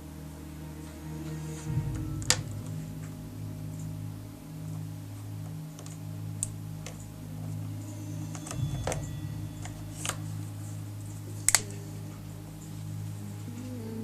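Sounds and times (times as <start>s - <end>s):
low drone background score: 0.0s - 14.0s.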